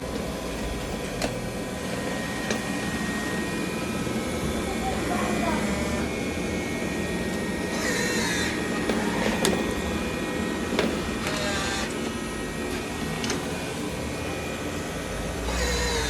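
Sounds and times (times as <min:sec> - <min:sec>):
robot vacuum whirring: 0:00.0 - 0:16.0.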